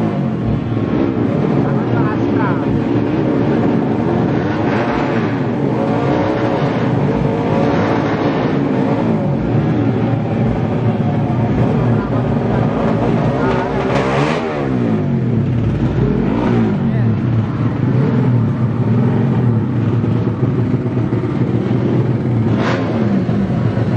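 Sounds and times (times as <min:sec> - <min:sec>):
motorcycle engines revving: 0:00.0 - 0:23.9.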